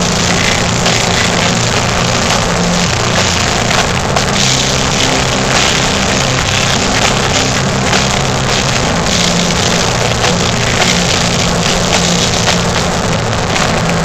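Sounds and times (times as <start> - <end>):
distorted guitars and bass: 0.0 - 14.0
drums and cymbals: 0.0 - 14.0.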